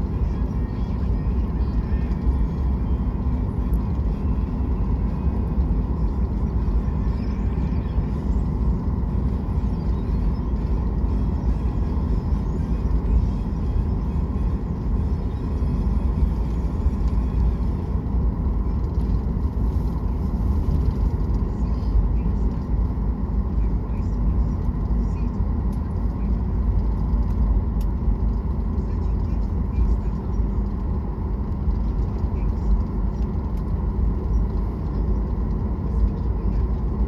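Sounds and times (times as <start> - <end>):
faint steady whine: 0.0 - 37.0
jet engine rumble in cabin: 0.0 - 37.0.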